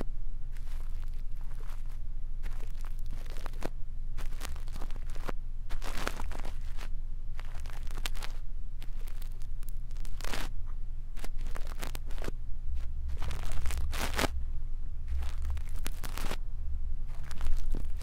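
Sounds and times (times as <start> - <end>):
brush scratching microphone: 0.0 - 10.5, 11.2 - 14.4, 15.1 - 16.4, 17.1 - 18.0
faint low hum: 0.0 - 18.0.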